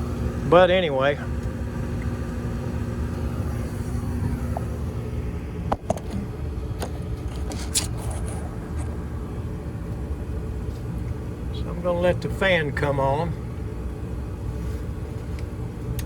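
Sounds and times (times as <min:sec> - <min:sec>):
gas furnace rumbling: 0:00.0 - 0:16.0.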